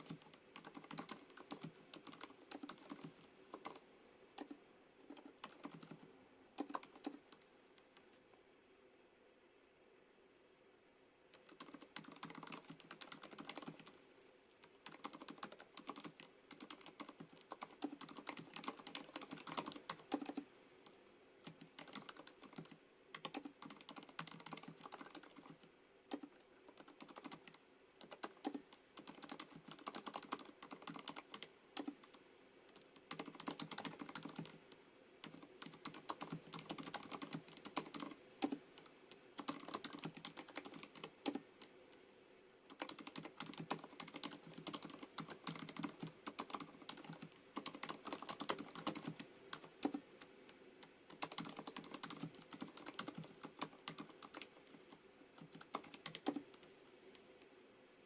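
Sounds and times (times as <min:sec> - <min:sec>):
mechanical keyboard typing: 0:00.0 - 0:03.8, 0:04.4 - 0:07.4, 0:11.3 - 0:13.9, 0:14.6 - 0:20.5, 0:21.4 - 0:34.6, 0:35.2 - 0:41.5, 0:42.7 - 0:50.0, 0:51.1 - 0:56.6.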